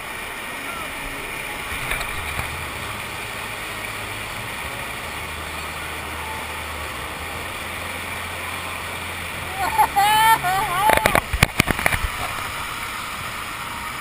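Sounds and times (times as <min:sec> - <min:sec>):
low drone: 0:00.0 - 0:14.0
rushing pumped water: 0:00.0 - 0:14.0.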